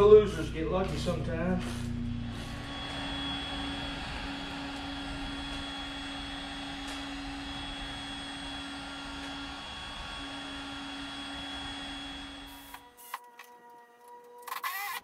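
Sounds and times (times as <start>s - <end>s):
steady rushing roar: 0.0s - 12.8s
low hum: 0.0s - 13.2s.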